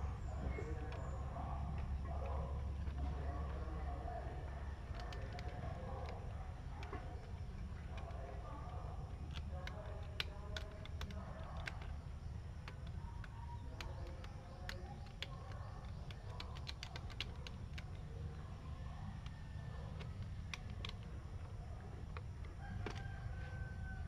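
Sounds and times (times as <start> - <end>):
steady low hum: 0.0 - 24.0
light clicks: 0.4 - 24.0.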